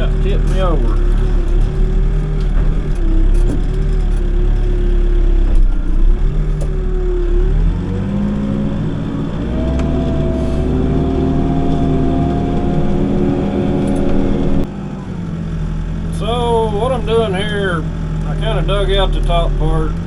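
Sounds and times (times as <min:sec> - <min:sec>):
backhoe diesel engine digging: 0:00.0 - 0:20.0.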